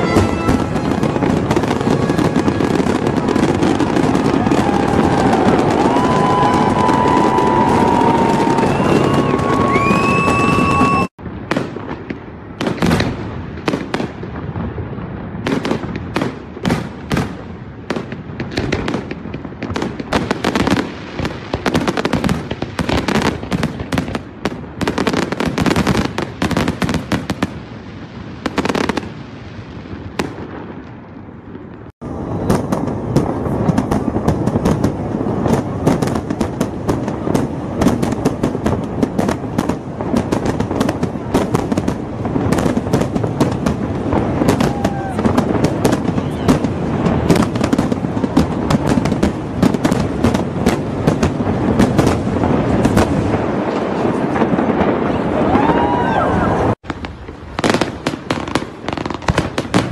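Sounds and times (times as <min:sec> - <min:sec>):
fireworks bursting: 0:00.0 - 0:59.9
fireworks crackle: 0:00.0 - 0:59.9.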